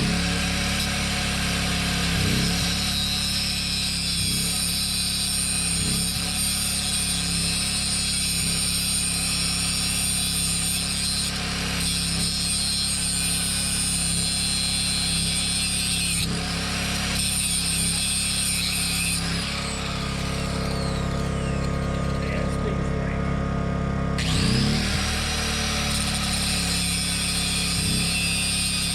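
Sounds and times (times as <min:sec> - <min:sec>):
angle grinder cutting steel: 0:00.0 - 0:23.2, 0:24.2 - 0:28.9
grinder winding down: 0:00.0 - 0:28.9.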